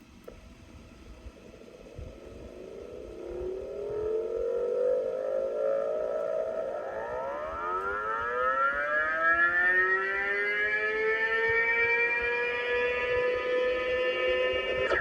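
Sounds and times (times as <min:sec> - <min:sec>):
rising electronic sci-fi tones: 0:00.9 - 0:15.0.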